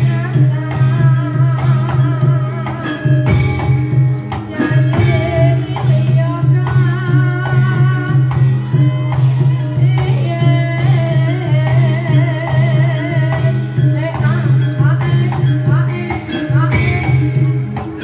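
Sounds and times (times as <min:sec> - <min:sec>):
drums striking a regular beat: 0:00.0 - 0:18.0
wavering melody line: 0:00.0 - 0:18.0.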